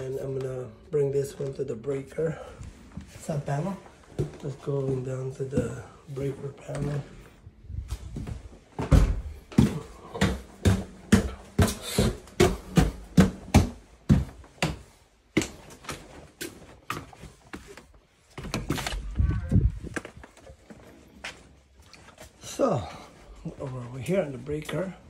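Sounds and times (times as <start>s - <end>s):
footsteps going down stairs: 2.3s - 25.0s.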